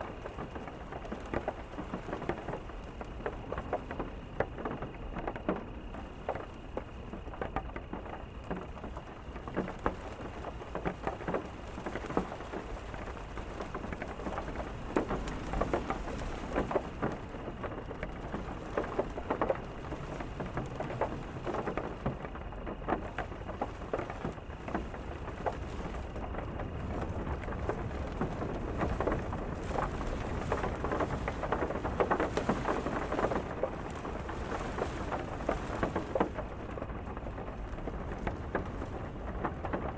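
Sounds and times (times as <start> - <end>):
rain drops striking close by: 0.0 - 39.9.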